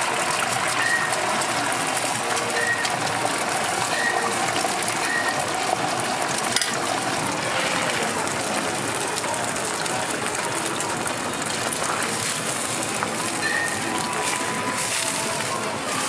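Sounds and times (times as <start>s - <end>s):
egg sizzling on a griddle: 0.0s - 16.0s.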